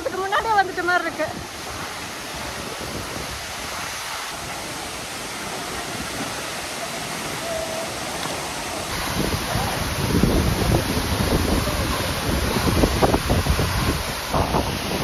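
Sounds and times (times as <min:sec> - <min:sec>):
wind buffeting microphone: 0:00.0 - 0:06.6, 0:08.8 - 0:15.0
waterfall rushing: 0:00.0 - 0:15.0.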